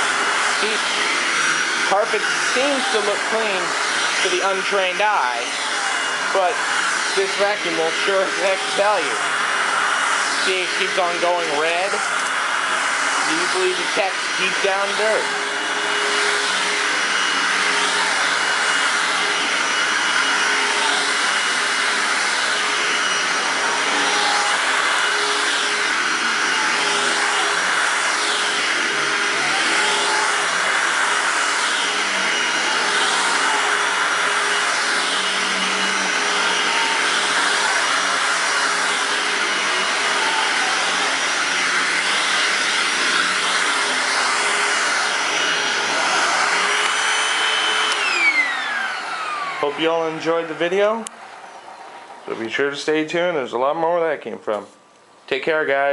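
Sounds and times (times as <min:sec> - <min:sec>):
upright vacuum on carpet: 0:00.0 - 0:52.5.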